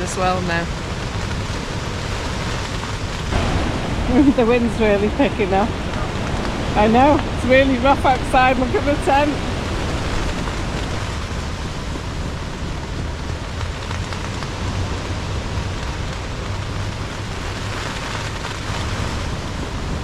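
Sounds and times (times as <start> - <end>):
rain: 0.0 - 20.0
wind buffeting the microphone: 0.0 - 20.0.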